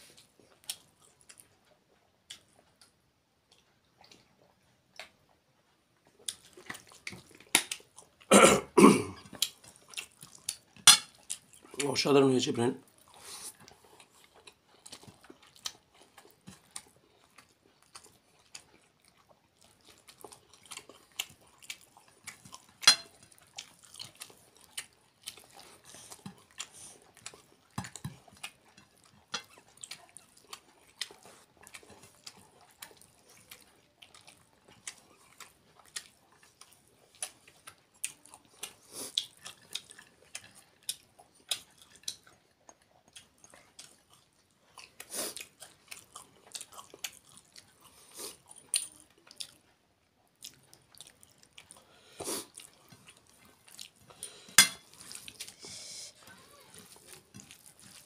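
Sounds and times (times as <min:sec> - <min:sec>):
man chewing: 0:00.0 - 0:11.8, 0:12.9 - 0:58.0.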